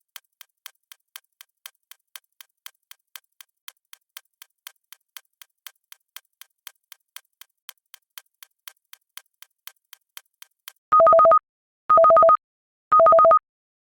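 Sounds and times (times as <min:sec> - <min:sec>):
timer ticking: 0:00.0 - 0:13.4.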